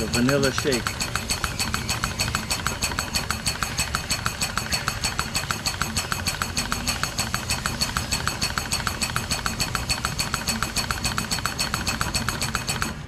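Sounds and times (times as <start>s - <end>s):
air pump pulsing: 0.0s - 13.0s.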